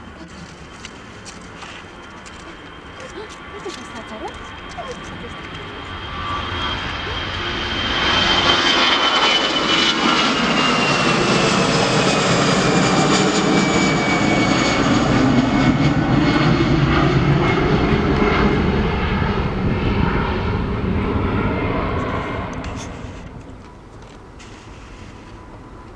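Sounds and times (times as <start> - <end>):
jet airliner passing: 0.0 - 25.9.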